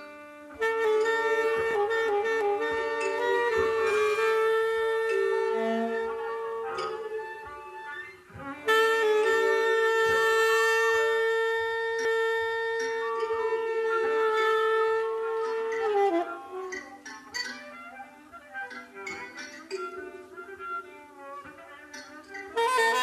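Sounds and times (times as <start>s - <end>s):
tenor saxophone long notes: 0.0s - 23.0s.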